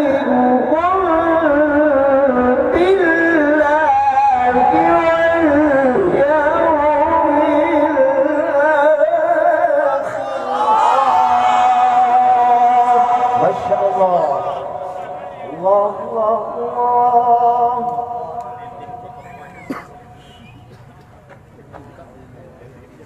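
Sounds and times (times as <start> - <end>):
man reciting melodically: 0.0 - 20.7.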